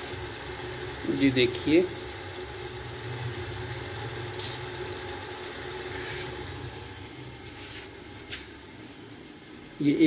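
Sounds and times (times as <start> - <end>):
steady low motor hum: 0.0 - 10.0.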